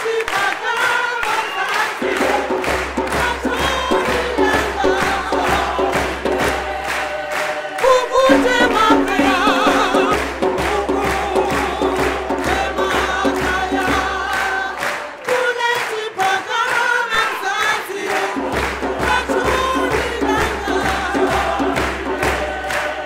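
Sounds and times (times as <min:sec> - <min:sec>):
choir singing in harmony: 0:00.0 - 0:23.0
people clapping along: 0:00.0 - 0:23.0.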